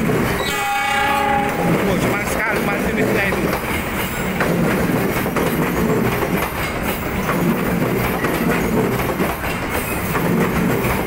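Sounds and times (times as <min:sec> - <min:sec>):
train rumbling past: 0:00.0 - 0:11.0
wheels clicking over rail joints: 0:01.4 - 0:11.0.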